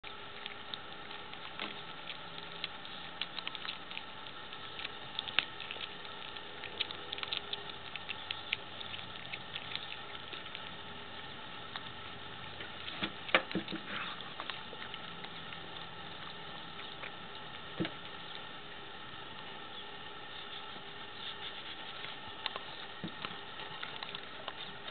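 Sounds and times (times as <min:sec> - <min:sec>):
cat chewing bones crunching: 0:00.0 - 0:24.9.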